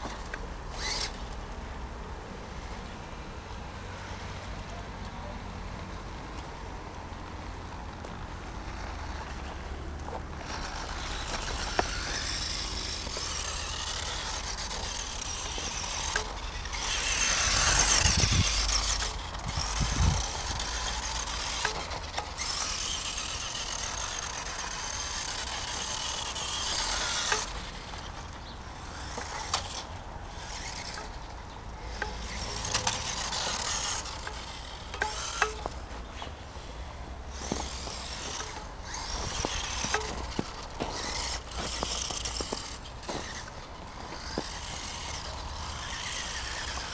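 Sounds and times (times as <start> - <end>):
tyres scrabbling over snow: 0.0 - 1.2, 7.8 - 46.9
toy car motor and gears whining: 0.0 - 1.6, 6.1 - 46.9.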